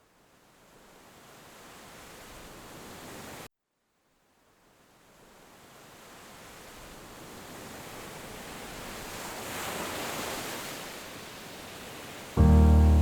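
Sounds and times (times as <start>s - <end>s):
ocean waves washing on shore: 0.5s - 3.5s, 5.6s - 13.0s.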